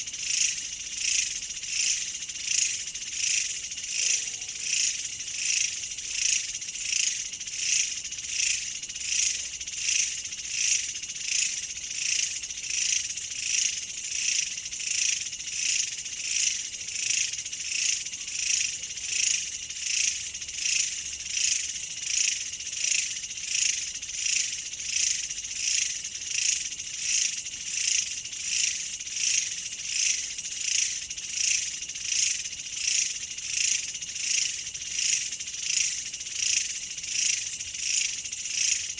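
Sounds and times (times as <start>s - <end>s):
insects trilling in pulses: 0.0s - 38.9s.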